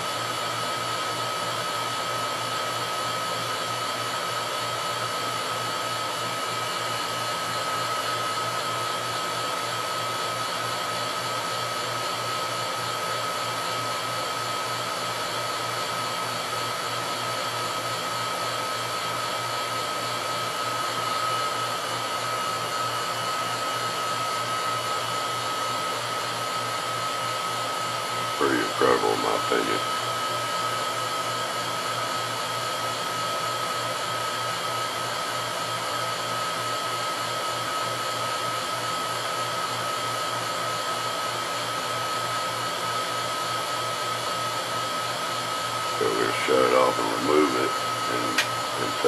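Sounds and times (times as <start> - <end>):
vacuum pump whining and humming: 0.0 - 49.0.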